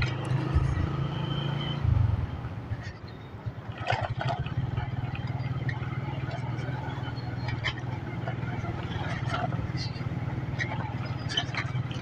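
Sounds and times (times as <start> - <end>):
motorcycle engine chugging: 2.0 - 12.0.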